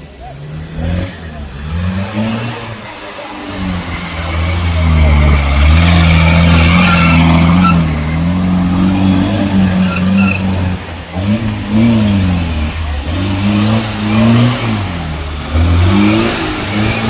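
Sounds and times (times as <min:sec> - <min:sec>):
racing car engine revving: 0:00.0 - 0:17.0.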